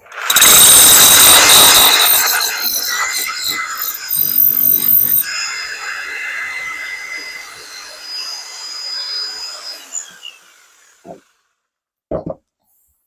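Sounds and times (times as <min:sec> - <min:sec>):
power drill whining: 0:00.0 - 0:11.5.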